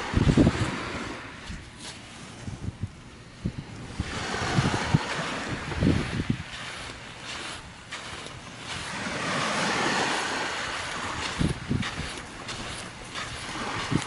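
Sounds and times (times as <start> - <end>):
waves washing onto shingle: 0.0 - 2.6, 3.8 - 14.0
wind buffeting microphone: 0.0 - 14.0.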